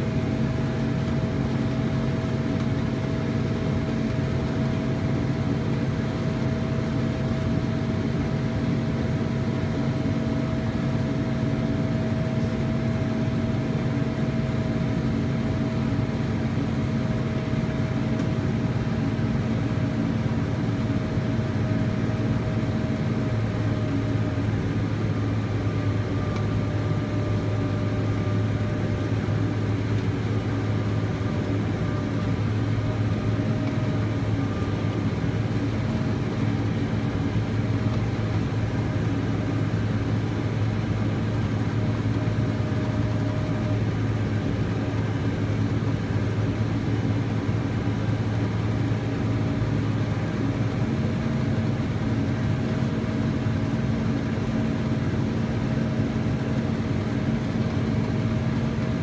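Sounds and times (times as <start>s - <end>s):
tractor diesel engine running: 9.7s - 59.0s.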